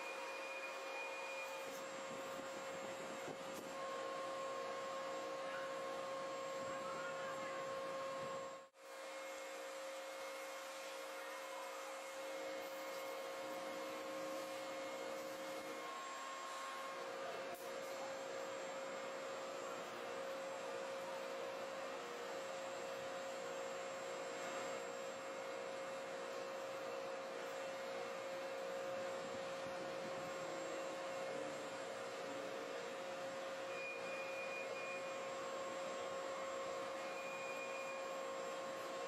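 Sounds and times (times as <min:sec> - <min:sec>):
steady mid-pitched hum: 0:00.0 - 0:11.2, 0:11.8 - 0:39.0.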